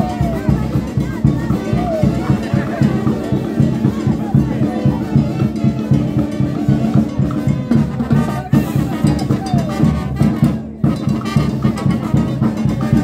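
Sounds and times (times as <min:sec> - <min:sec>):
brass band playing dance music: 0:00.0 - 0:13.0
steady drum beat: 0:00.0 - 0:13.0.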